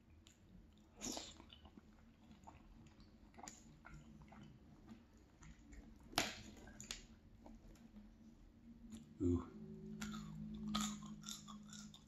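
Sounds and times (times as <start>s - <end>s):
faint chewing: 0.0s - 8.2s, 8.8s - 12.0s.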